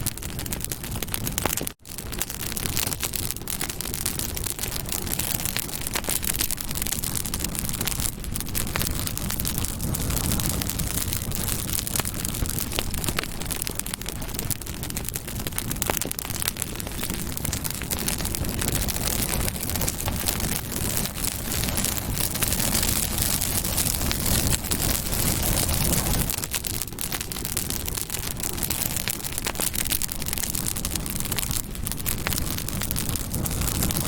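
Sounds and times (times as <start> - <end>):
campfire crackles and pops: 0.0 - 34.0
low rumble of flames: 0.0 - 34.0.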